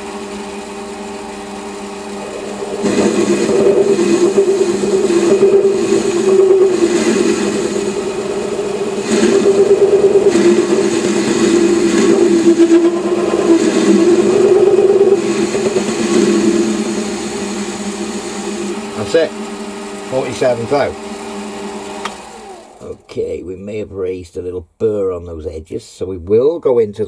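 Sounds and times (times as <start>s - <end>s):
lathe tool chattering: 0.0s - 22.9s
lathe running: 0.0s - 23.0s.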